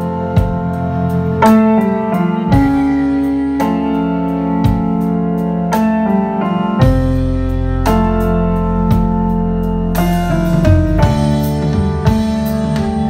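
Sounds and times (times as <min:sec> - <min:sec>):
bass line: 0:00.0 - 0:13.0
drums and cymbals: 0:00.0 - 0:13.0
electric guitar: 0:00.0 - 0:13.0
electric keyboard chords: 0:00.0 - 0:13.0.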